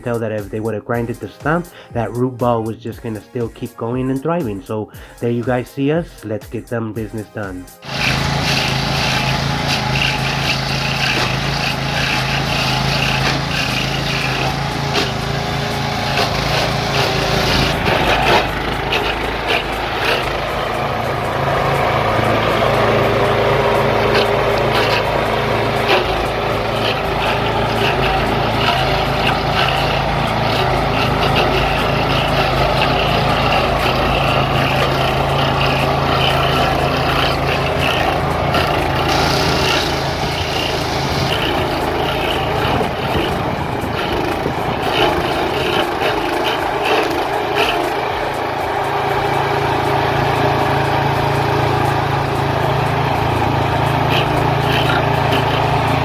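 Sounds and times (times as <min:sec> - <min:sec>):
stump grinder engine running: 0:00.0 - 0:02.3, 0:07.4 - 0:56.0
cutter wheel grinding stump: 0:00.0 - 0:04.4, 0:07.0 - 0:56.0.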